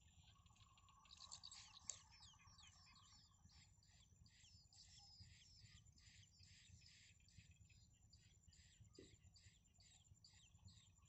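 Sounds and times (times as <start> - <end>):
small birds high thin chirps: 0.0 - 11.0.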